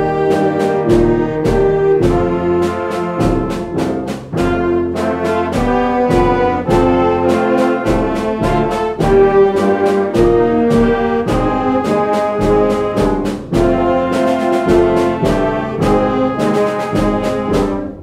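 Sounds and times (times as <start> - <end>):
concert band playing: 0.0 - 18.0.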